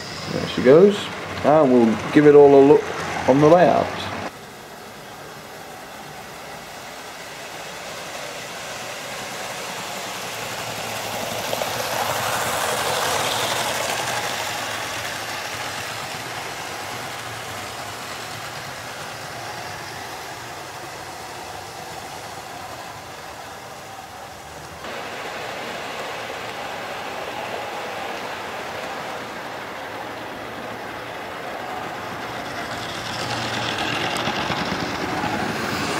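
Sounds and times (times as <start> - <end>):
wheels rattling over rail joints: 0.0 - 35.9
model train motor hum: 4.3 - 35.9.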